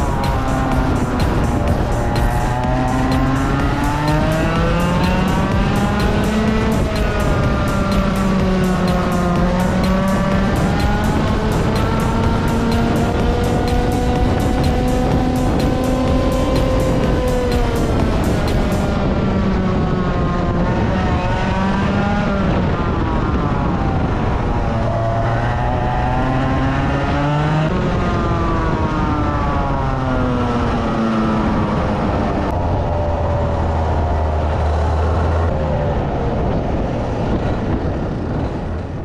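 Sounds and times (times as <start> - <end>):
kart engine revving: 0.0 - 38.0.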